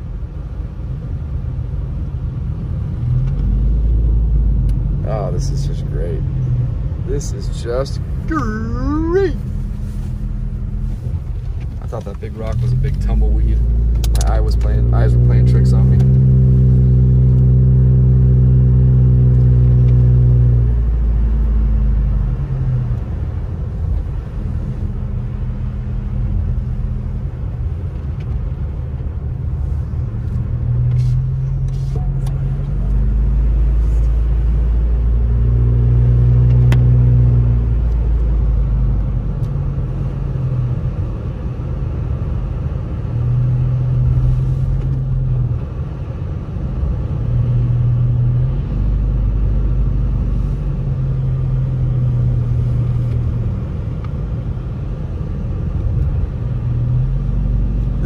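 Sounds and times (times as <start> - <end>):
car engine hum: 0.0 - 58.0
tyres rumbling on snowy road: 0.0 - 58.0.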